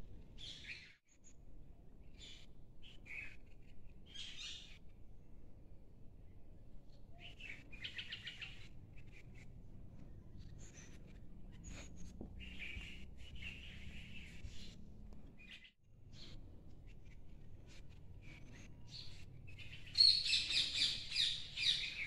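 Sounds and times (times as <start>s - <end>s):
small birds chirping: 2.0s - 5.0s, 6.2s - 22.0s.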